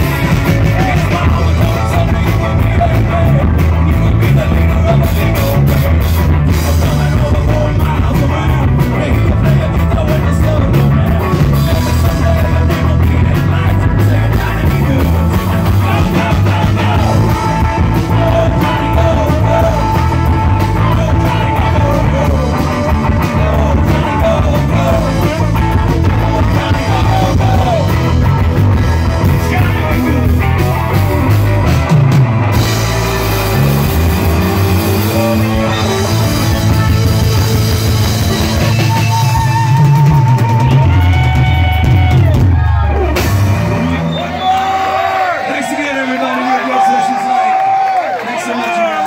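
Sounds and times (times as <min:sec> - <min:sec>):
man singing: 0:00.0 - 0:31.4, 0:32.5 - 0:42.4
drum kit: 0:00.0 - 0:45.1
electric guitar: 0:00.0 - 0:45.1
bass guitar: 0:00.0 - 0:45.5
keyboard: 0:00.0 - 0:47.6.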